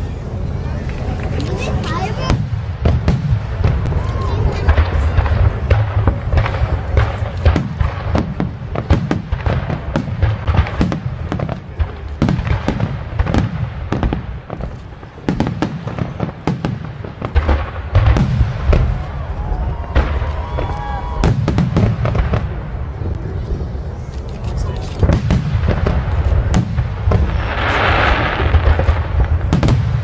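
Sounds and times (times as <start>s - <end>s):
continuous low rumble: 0.0s - 30.0s
fireworks booms and cracks: 0.0s - 30.0s.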